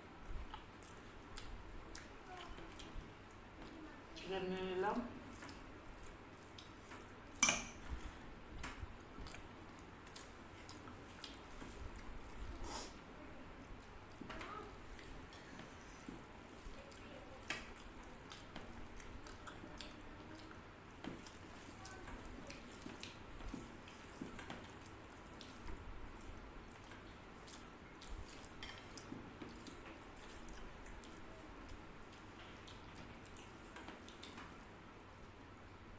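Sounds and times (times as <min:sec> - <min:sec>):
wet squishes of eating by hand: 0:00.0 - 0:35.9.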